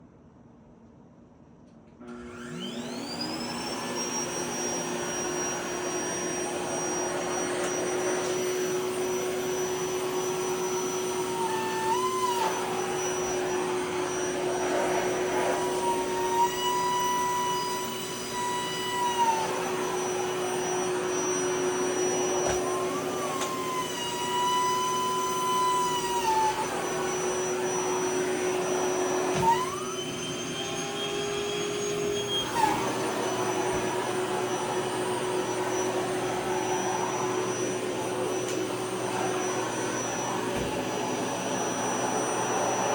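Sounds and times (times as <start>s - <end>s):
vacuum cleaner running: 2.0s - 42.9s.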